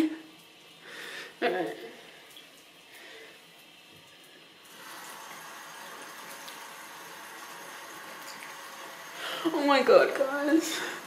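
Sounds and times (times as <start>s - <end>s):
water running into basin: 0.0s - 11.0s.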